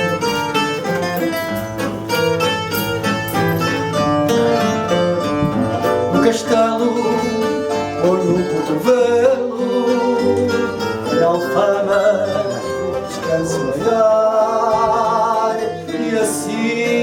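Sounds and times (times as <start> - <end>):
guitar chords: 0.0 - 17.0
plucked guitar melody: 0.0 - 17.0.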